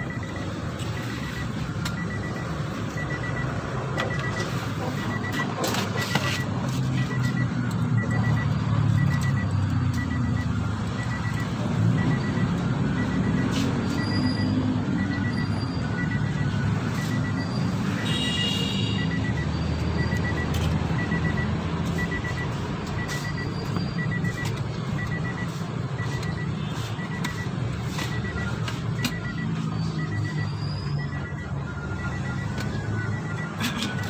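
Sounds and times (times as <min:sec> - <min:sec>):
rapid electronic beeping: 0:00.0 - 0:34.0.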